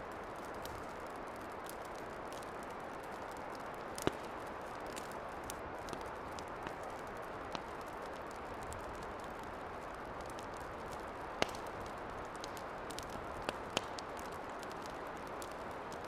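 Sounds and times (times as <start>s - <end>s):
campfire hissing: 0.0s - 16.0s
fire pops and crackles: 0.0s - 16.0s.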